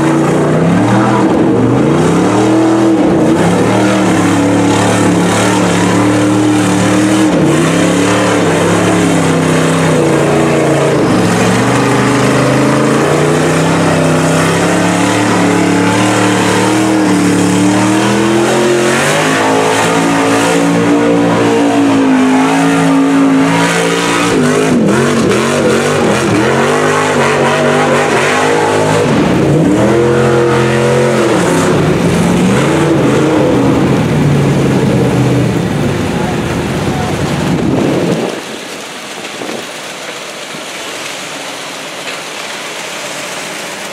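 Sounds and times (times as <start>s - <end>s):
truck engine revving: 0.0s - 39.9s
water rushing and splashing: 0.0s - 43.9s.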